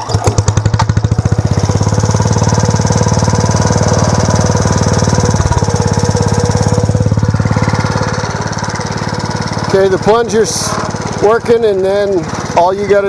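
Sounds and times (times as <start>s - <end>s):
small engine running fast: 0.0s - 13.0s.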